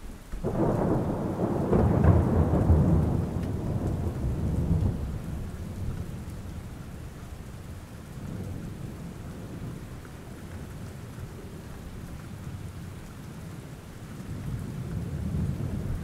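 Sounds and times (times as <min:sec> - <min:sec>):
steady rain: 0:00.0 - 0:16.0
low rolling thunder: 0:00.4 - 0:13.4, 0:14.2 - 0:16.0.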